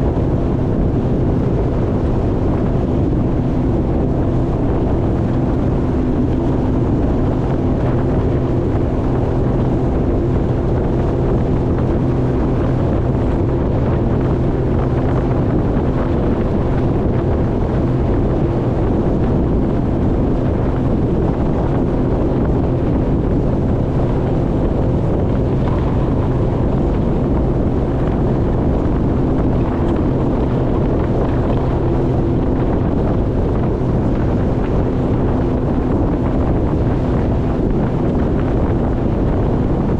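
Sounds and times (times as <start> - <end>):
jet ski engine running: 0.0 - 39.9
wind buffeting microphone: 0.0 - 39.9.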